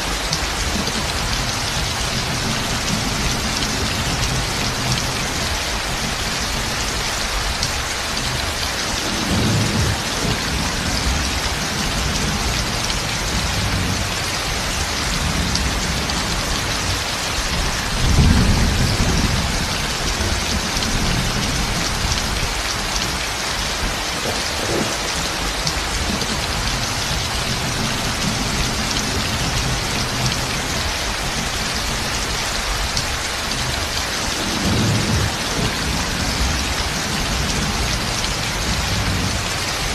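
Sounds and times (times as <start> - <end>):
heavy rain pouring: 0.0 - 39.9
thunder rolling: 0.6 - 39.9.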